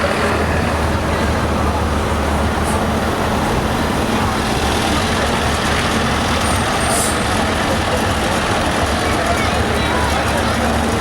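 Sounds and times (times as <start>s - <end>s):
truck diesel engines rumbling: 0.0s - 11.0s.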